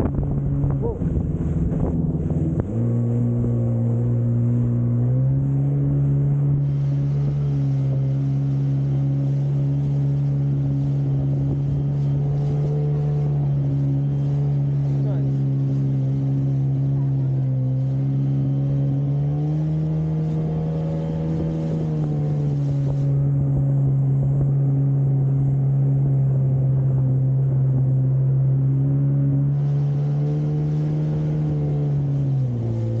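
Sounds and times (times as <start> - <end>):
jet ski engine running: 0.0 - 33.0.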